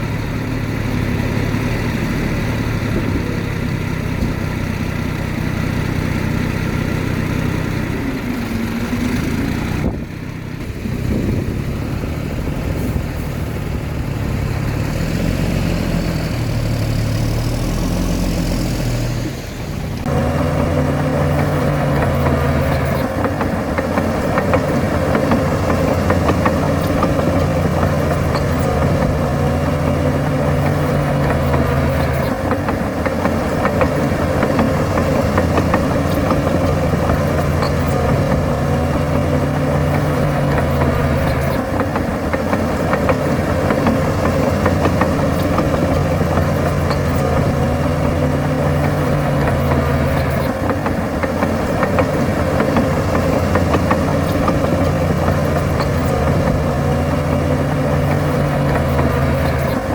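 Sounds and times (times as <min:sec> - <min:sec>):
heavy diesel machinery working: 0:00.0 - 0:59.9.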